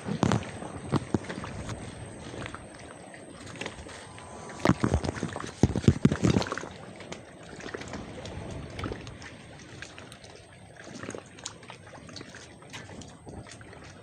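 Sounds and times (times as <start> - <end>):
water lapping and trickling: 0.0 - 14.0.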